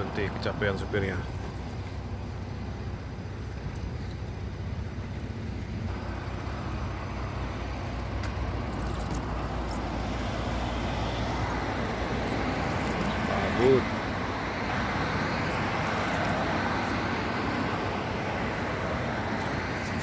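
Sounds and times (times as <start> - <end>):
road and traffic noise: 0.0 - 20.0
vehicle engine rumble: 0.0 - 20.0.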